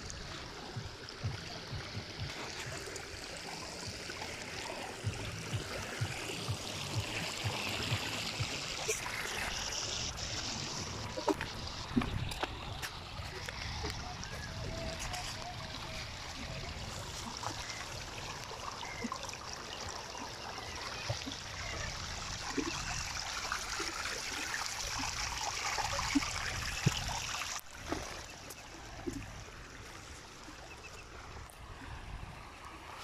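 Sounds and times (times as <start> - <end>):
water trickling through rocks: 0.0 - 33.0.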